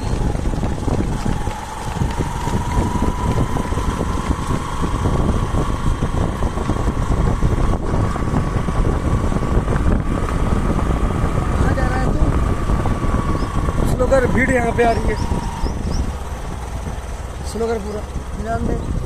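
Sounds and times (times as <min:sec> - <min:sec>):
faint rising whine: 0:00.0 - 0:17.5
vehicle engine rumbling: 0:00.0 - 0:19.0
wind noise on microphone: 0:00.0 - 0:19.0.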